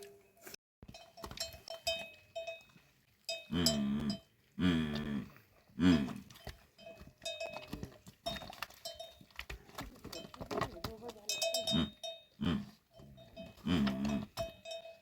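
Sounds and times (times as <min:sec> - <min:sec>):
livestock bells clanking: 0:00.8 - 0:04.4, 0:06.4 - 0:15.0.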